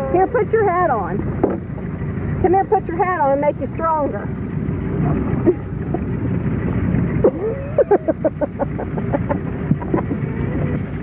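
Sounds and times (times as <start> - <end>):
tractor engines rumbling: 0.0 - 11.0.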